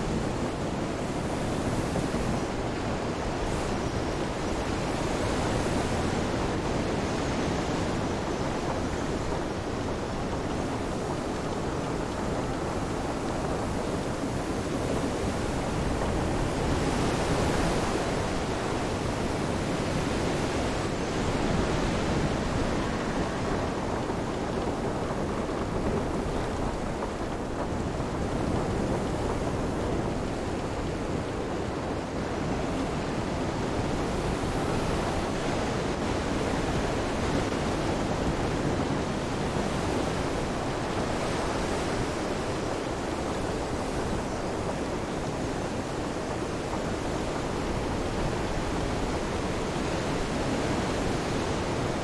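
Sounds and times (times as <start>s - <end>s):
rain: 0.0s - 52.0s
wind: 0.0s - 52.0s.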